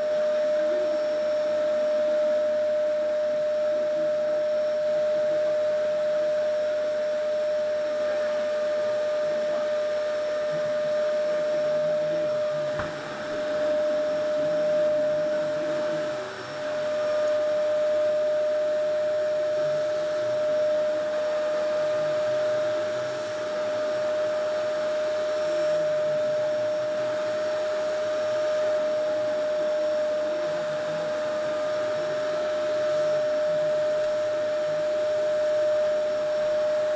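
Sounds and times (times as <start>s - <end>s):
vacuum cleaner whining: 0.0s - 36.9s.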